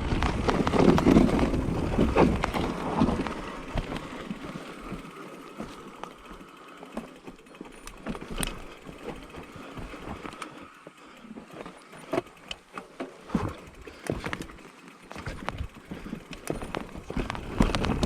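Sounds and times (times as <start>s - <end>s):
bike rattling over roots: 0.0s - 18.0s
bike tyres on dirt: 0.0s - 18.0s.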